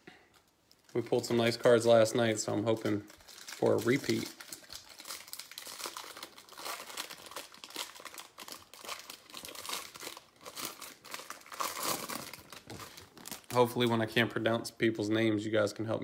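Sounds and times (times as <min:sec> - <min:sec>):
plastic wrapping crinkling and tearing: 0:00.4 - 0:14.0.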